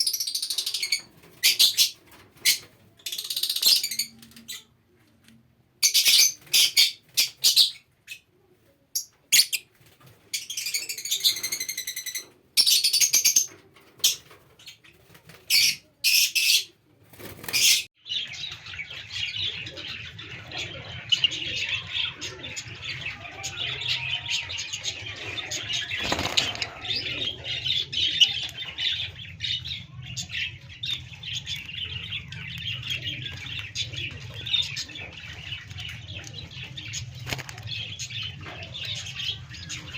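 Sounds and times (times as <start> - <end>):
parrots chirping and squawking: 0.0 - 4.7, 5.8 - 8.2, 9.3 - 9.7, 10.3 - 14.8, 15.5 - 16.7, 17.4 - 37.0
chatter of many birds: 0.0 - 4.9, 5.8 - 39.9.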